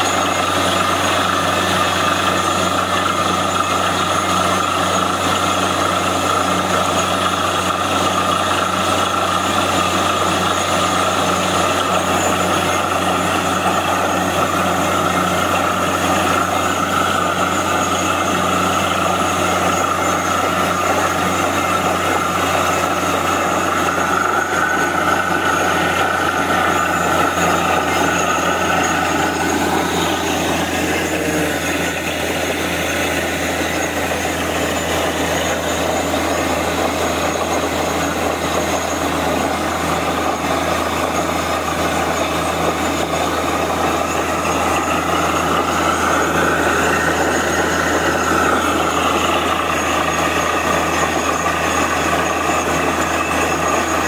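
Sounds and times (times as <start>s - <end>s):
drilling rig engine drone: 0.0s - 54.0s
muddy water gushing and splashing: 0.0s - 54.0s.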